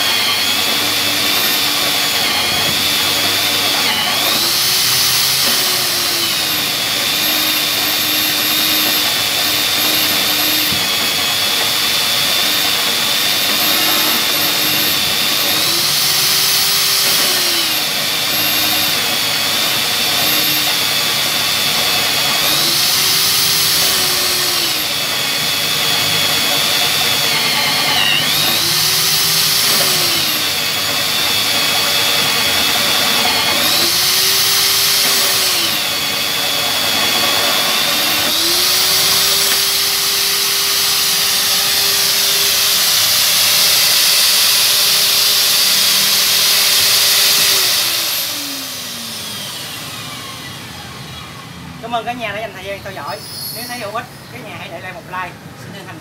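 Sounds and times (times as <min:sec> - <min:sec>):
magnetic drill cutting into steel: 0:00.0 - 0:54.8.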